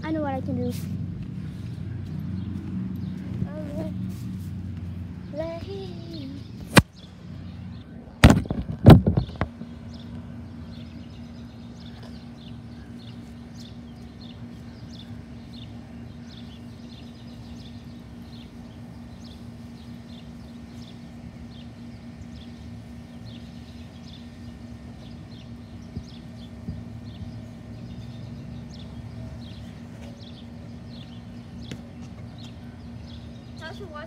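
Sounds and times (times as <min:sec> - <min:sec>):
birds chirping: 0:00.0 - 0:34.0
steady low hum: 0:00.0 - 0:34.0.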